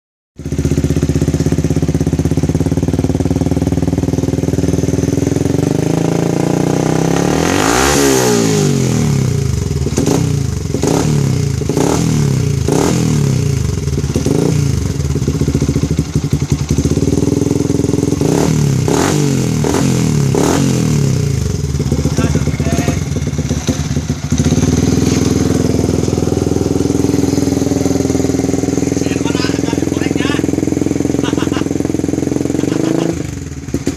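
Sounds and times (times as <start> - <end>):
motorcycle engine revving: 0.4 - 33.9.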